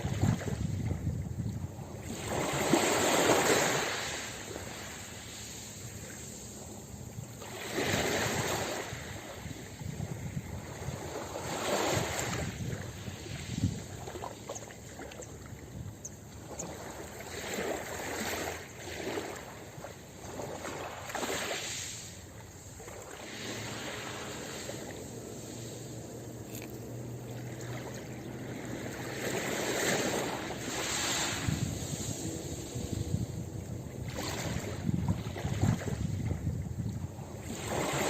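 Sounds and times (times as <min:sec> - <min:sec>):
ocean waves washing onto beach: 0:00.0 - 0:38.0.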